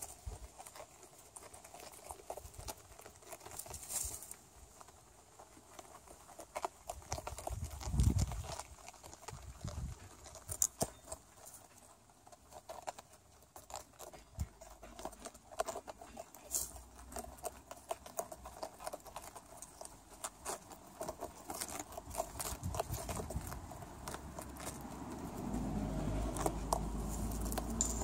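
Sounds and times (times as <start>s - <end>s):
rabbits crunching cabbage: 0.0s - 28.0s.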